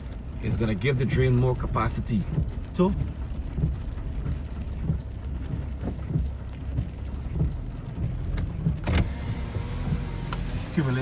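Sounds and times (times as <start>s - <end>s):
car road and engine rumble: 0.0s - 11.0s
rain hitting car: 0.0s - 11.0s.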